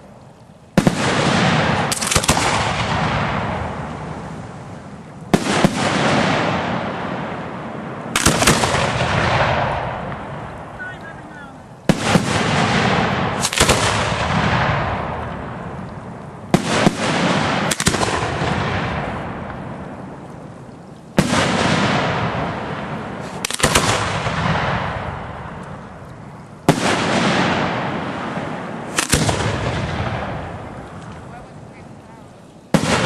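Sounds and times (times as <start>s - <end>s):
firework shells banging with echo: 0.8s - 4.2s, 5.0s - 32.0s, 32.7s - 33.0s.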